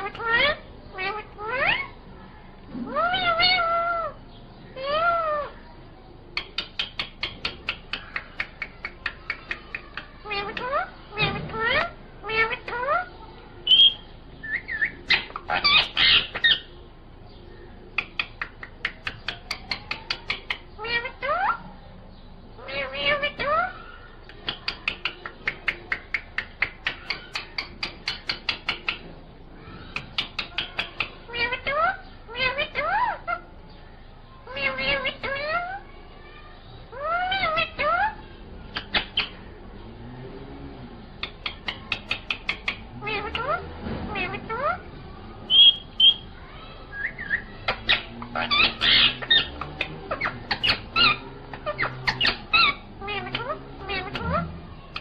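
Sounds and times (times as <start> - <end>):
parakeet calling: 0.0 - 2.0, 2.9 - 5.8, 6.4 - 39.9, 41.0 - 55.0.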